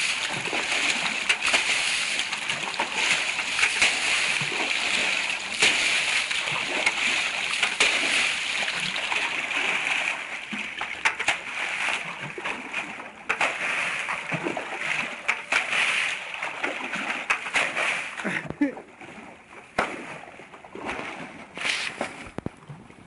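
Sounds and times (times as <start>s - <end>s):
sharp water splashes: 0.0s - 23.0s.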